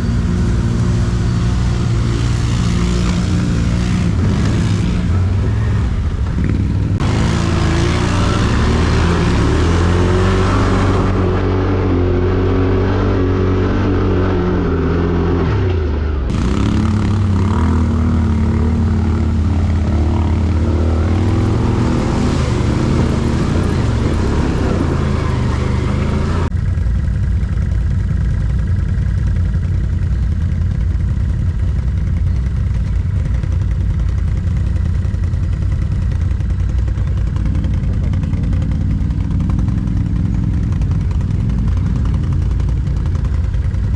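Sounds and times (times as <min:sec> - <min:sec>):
atv engines running: 0:00.0 - 0:43.9.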